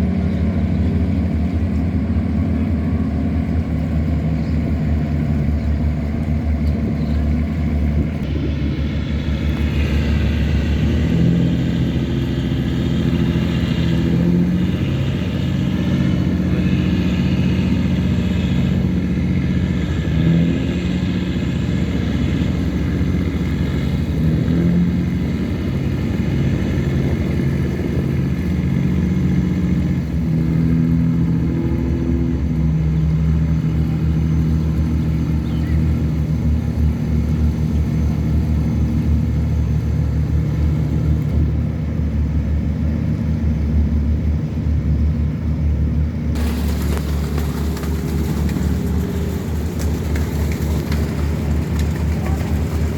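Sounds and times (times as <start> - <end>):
diesel engine throbbing: 0.0 - 52.9.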